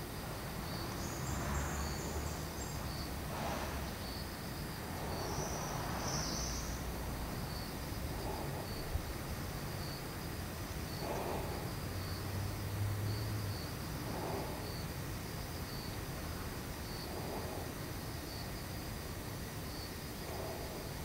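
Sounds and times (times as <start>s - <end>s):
insects chirping in pulses: 0.0s - 21.0s
outdoor hiss: 0.0s - 21.0s
insect buzzes: 0.5s - 21.0s.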